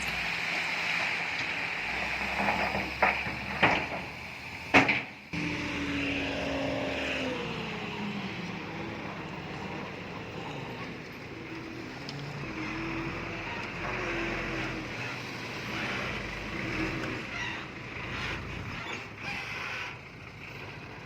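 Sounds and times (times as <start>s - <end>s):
heavy machinery diesel engine: 0.0s - 21.0s.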